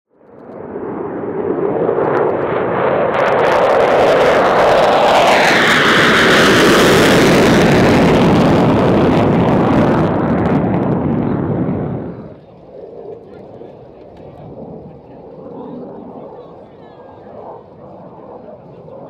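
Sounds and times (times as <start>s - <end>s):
jet afterburner roar with crackle: 0.1s - 19.0s.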